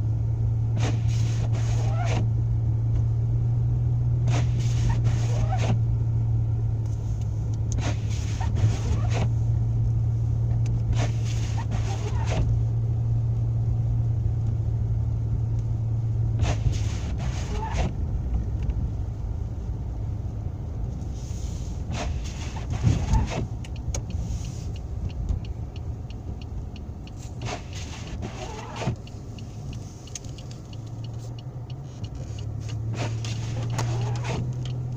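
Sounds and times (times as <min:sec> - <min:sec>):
car engine and road hum: 0:00.0 - 0:34.9.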